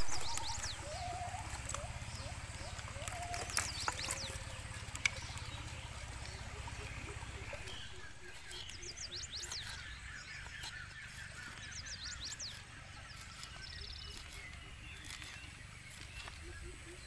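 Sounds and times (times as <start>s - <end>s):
bird chirping: 0.0s - 17.0s
bird trill: 0.0s - 17.0s
whistled bird glides: 0.0s - 17.0s.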